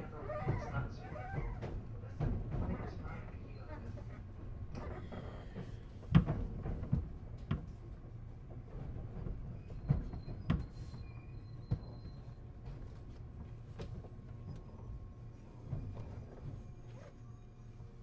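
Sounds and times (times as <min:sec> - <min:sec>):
knocks and clunks in train car: 0:00.0 - 0:18.0
train car low hum: 0:00.0 - 0:18.0.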